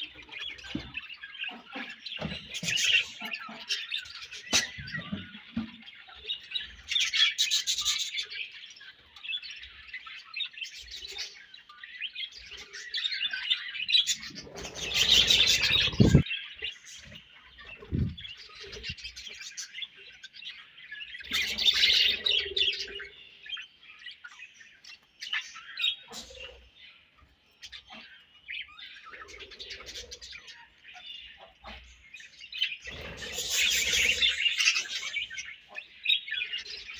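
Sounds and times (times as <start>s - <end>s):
budgerigars chirping: 0.0s - 36.9s.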